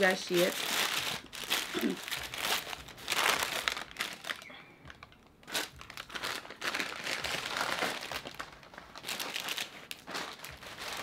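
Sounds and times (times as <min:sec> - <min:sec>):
paper bags crinkling: 0:00.0 - 0:11.0.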